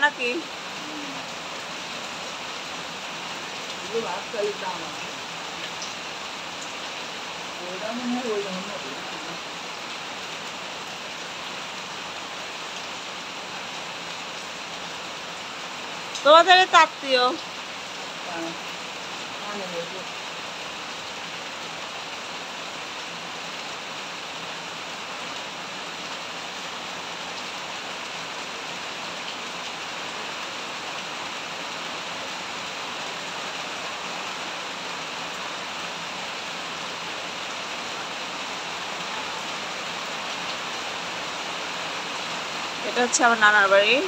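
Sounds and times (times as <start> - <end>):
rain on tin roofs and leaves: 0.0 - 44.0.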